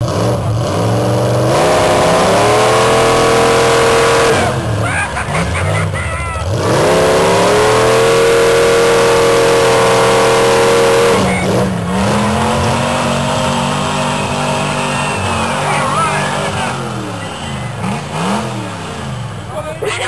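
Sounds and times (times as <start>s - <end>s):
truck engine revving hard: 0.0s - 20.0s.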